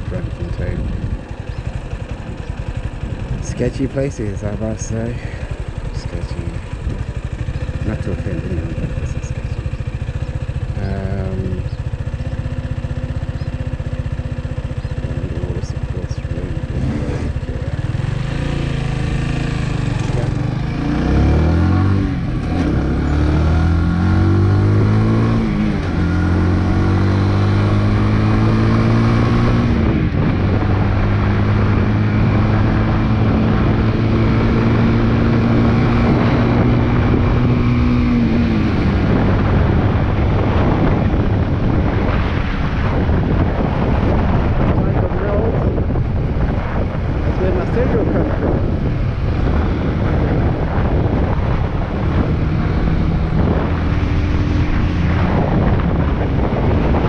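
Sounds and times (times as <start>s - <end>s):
wind on microphone: 0.0s - 13.9s, 14.8s - 57.0s
motorcycle engine accelerating: 0.0s - 57.0s.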